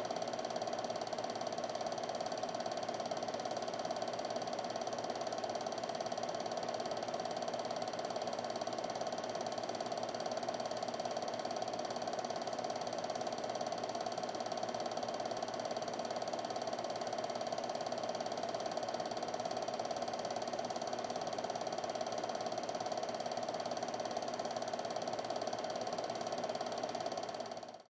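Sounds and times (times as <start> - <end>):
film projector whirring: 0.0 - 27.9.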